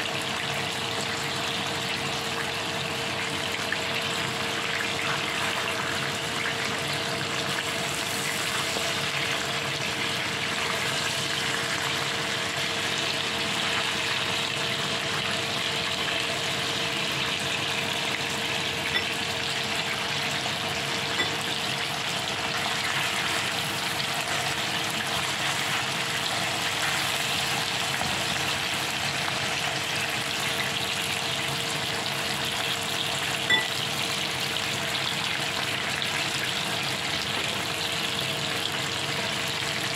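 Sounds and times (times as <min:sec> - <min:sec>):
meat and garlic sizzling in oil: 0:00.0 - 0:39.9.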